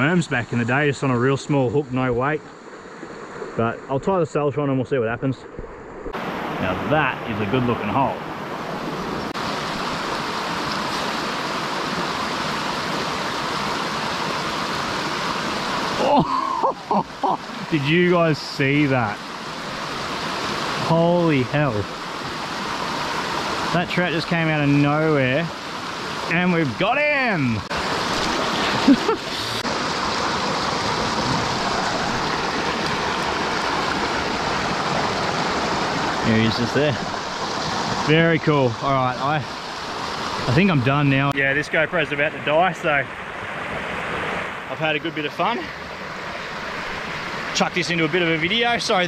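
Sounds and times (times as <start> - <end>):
stream rushing over rocks: 6.0 - 49.0.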